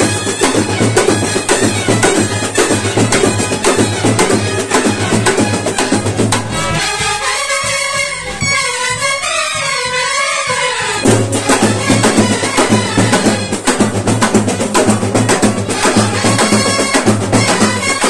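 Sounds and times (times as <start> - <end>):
marching drums: 0.0 - 18.0
trumpet and trombone: 0.0 - 18.0.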